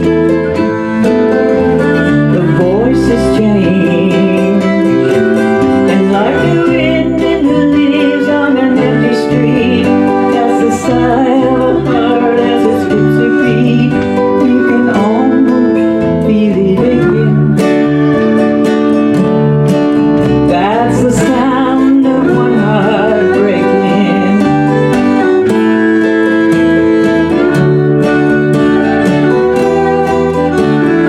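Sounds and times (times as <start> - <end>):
bass: 0.0 - 31.0
sliding violin melody: 0.0 - 31.0
strummed acoustic guitar: 0.0 - 31.0.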